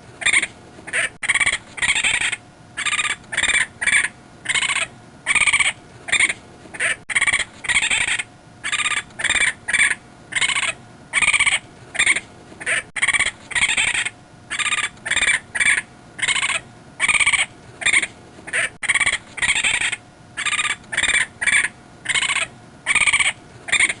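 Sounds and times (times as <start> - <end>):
raccoon high-pitched calls: 0.2 - 24.0.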